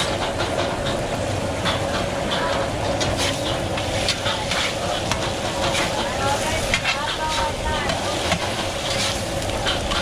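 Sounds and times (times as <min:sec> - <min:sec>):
omelettes sizzling on a griddle: 0:00.0 - 0:10.0.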